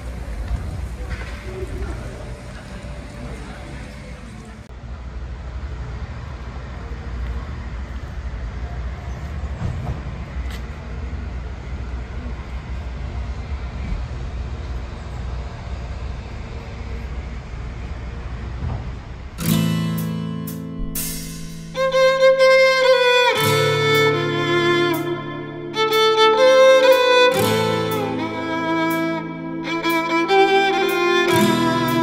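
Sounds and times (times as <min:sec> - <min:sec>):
outdoor rumble and hiss: 0:00.0 - 0:32.0.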